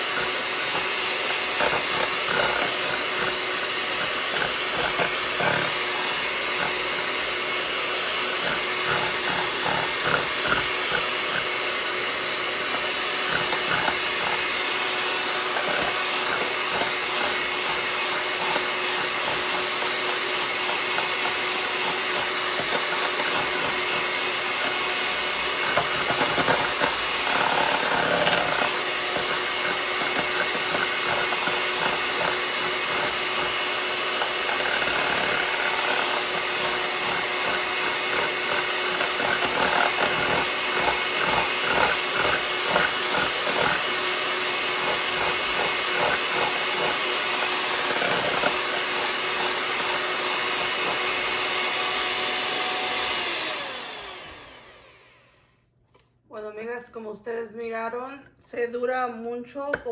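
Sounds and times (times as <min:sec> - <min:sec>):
electric hand mixer whipping: 0:00.0 - 0:55.6.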